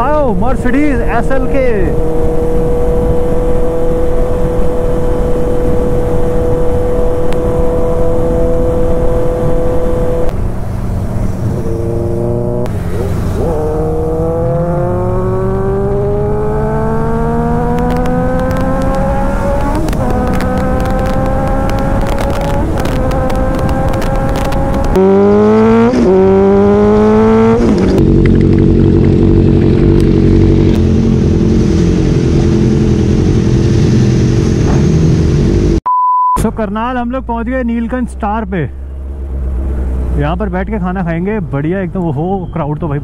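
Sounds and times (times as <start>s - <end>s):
motorcycle engine accelerating: 0.0s - 35.8s
rushing wind: 0.0s - 35.8s.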